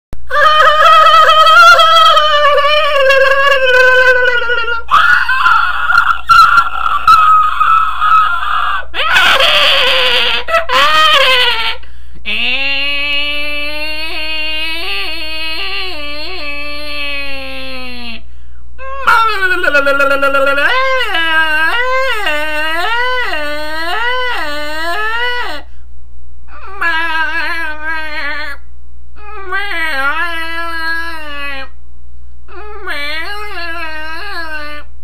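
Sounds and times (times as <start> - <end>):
person squealing and yowling: 0.3 - 18.2, 18.8 - 25.7, 26.5 - 28.6, 29.2 - 31.8, 32.5 - 34.9.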